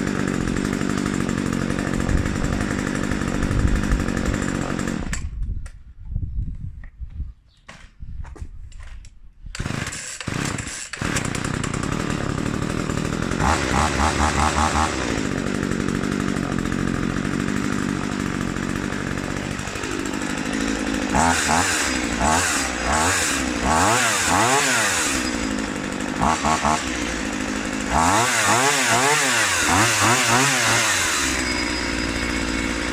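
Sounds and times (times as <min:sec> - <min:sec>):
chainsaw engine idling and revving: 0:00.0 - 0:05.4, 0:09.5 - 0:32.9.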